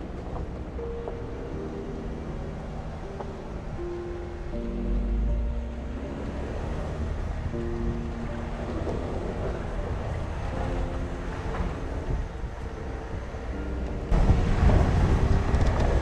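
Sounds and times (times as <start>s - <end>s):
held music chords: 0.0s - 16.0s
van engine and wheels rumbling: 0.0s - 16.0s.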